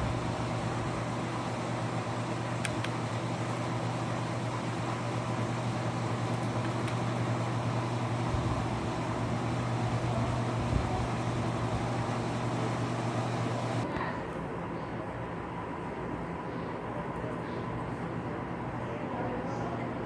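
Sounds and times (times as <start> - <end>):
mechanical hum with hiss: 0.0 - 20.0.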